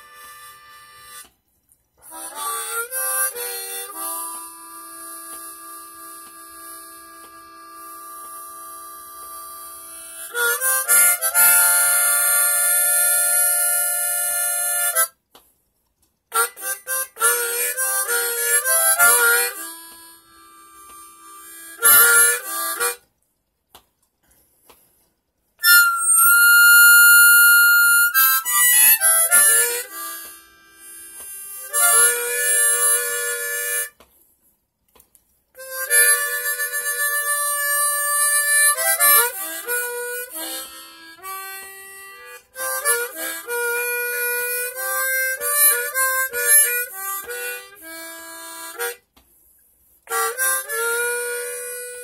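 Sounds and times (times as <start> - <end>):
harmonica playing: 0.0 - 1.3, 2.0 - 15.2, 16.3 - 23.1, 25.6 - 34.0, 35.6 - 52.0.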